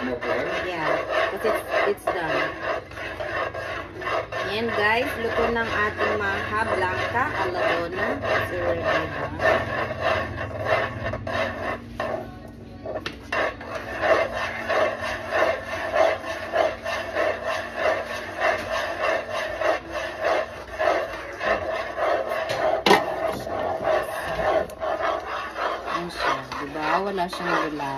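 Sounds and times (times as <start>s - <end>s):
utensil scraping a pan: 0.0s - 27.9s.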